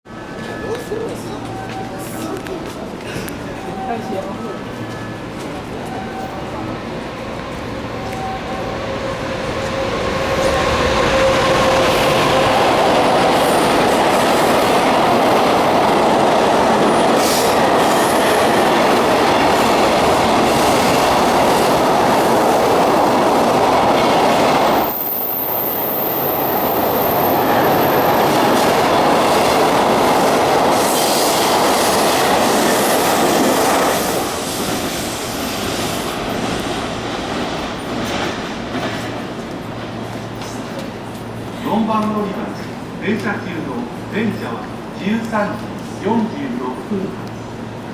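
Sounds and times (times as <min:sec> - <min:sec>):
freight train passing: 0:00.1 - 0:47.9.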